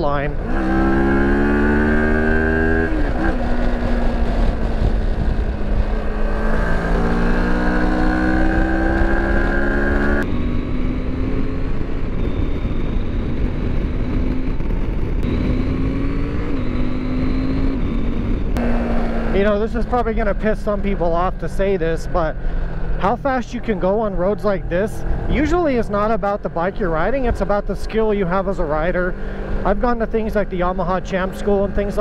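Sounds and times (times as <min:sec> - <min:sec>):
heavy wind noise: 0:00.0 - 0:32.0
motorcycle engine revving: 0:00.0 - 0:32.0.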